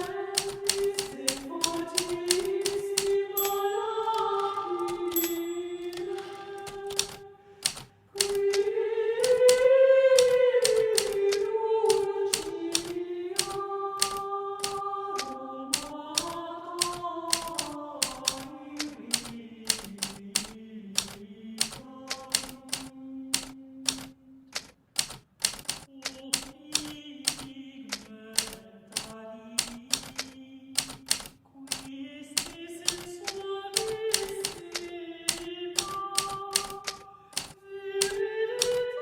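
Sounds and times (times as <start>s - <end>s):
typewriter keys striking: 0.0s - 8.5s, 9.2s - 11.3s, 11.9s - 38.9s.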